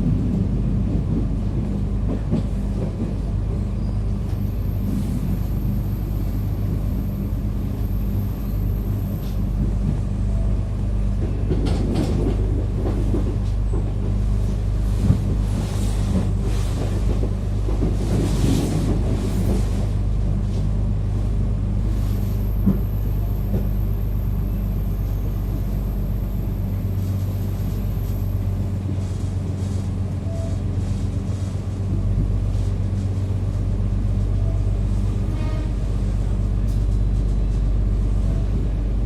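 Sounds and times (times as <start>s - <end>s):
train rumbling with rattles: 0.0s - 39.0s.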